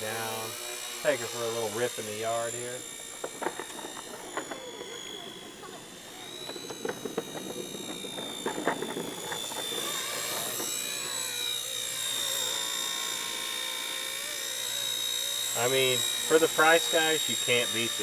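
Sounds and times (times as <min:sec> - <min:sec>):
rc helicopter whine: 0:00.0 - 0:18.0.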